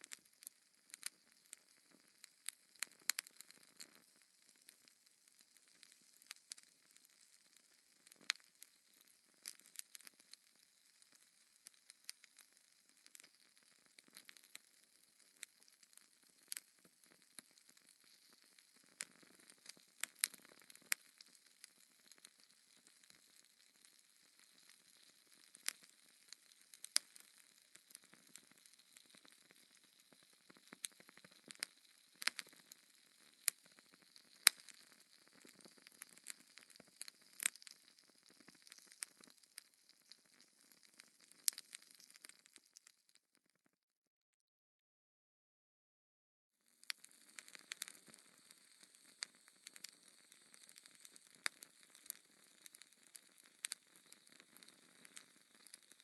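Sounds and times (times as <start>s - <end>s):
fire crackling: 0.0s - 43.2s, 46.8s - 56.0s.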